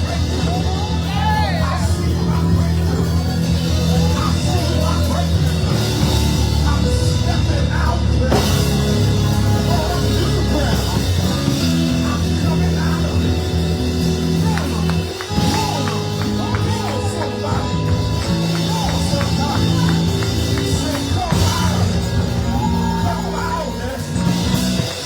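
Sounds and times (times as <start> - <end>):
live band music: 0.0 - 25.0
voices singing: 0.0 - 25.0.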